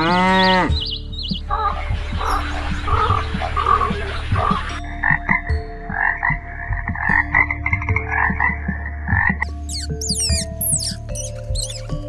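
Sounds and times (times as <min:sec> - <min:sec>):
frog croaking: 0:01.6 - 0:11.8.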